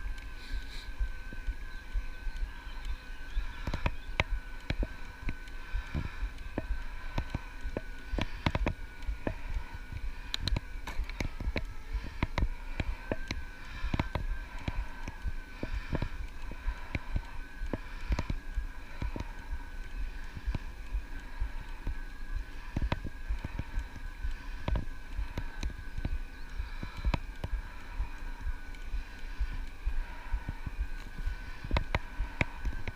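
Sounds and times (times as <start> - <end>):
electric motor whine: 0.0 - 32.9
wind rumble on microphone: 0.0 - 32.9.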